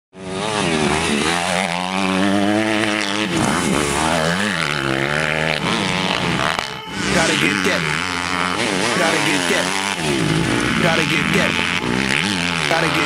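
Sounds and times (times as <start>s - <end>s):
dirt bike engine revving: 0.2s - 13.0s.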